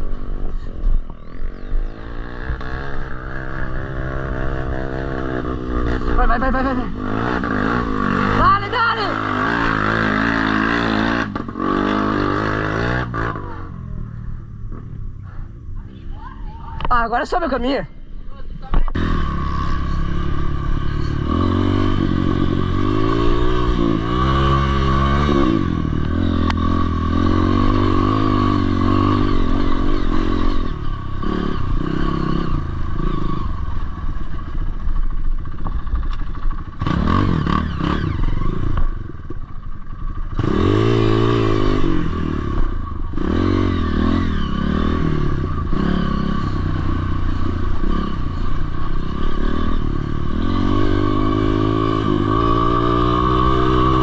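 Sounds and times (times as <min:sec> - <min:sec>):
dirt bike engine revving: 0:01.4 - 0:15.0, 0:18.9 - 0:54.0.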